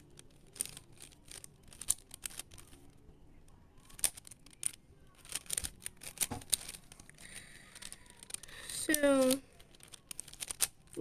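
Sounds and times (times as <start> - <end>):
plastic puzzle cube clicking: 0.0 - 3.0, 3.8 - 11.0.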